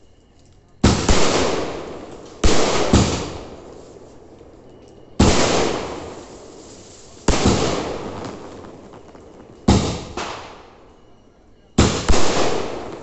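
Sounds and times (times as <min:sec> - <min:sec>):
fireworks bangs: 0:00.8 - 0:11.1, 0:11.8 - 0:13.0.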